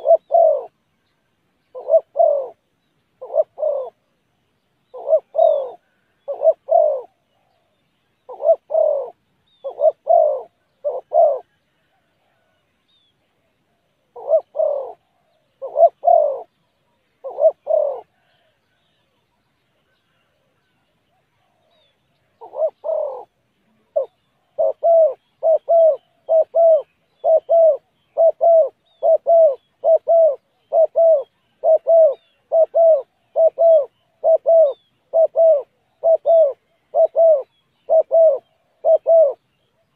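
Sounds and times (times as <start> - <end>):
dove cooing: 0.0 - 0.8, 1.6 - 4.1, 4.8 - 19.2, 19.8 - 39.9.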